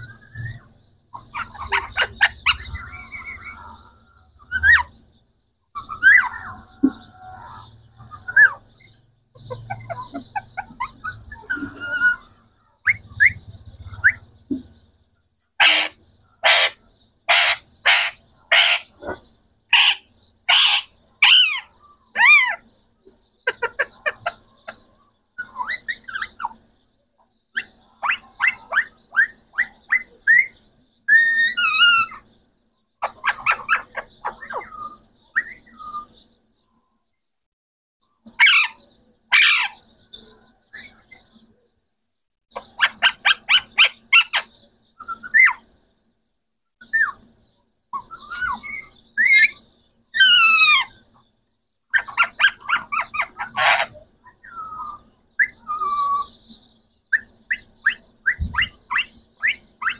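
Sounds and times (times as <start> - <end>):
parrots squawking and chattering: 0.0 - 5.1, 5.7 - 14.8, 15.6 - 26.7, 27.6 - 32.4, 33.0 - 36.3, 38.2 - 41.5, 42.5 - 45.8, 46.8 - 51.2, 51.9 - 59.9.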